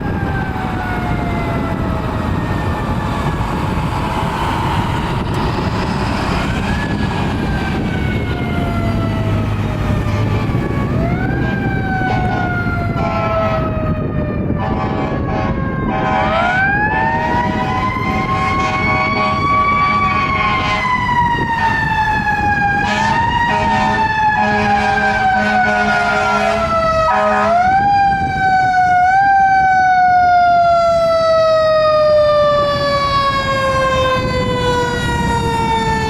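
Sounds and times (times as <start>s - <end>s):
fire engine siren wailing: 0.0s - 36.0s
truck engine rumble: 0.0s - 36.0s.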